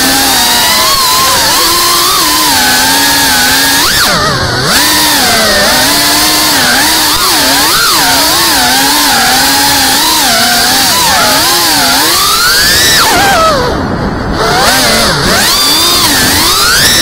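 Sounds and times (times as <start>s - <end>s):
drone motors and propellers buzzing: 0.0s - 17.0s.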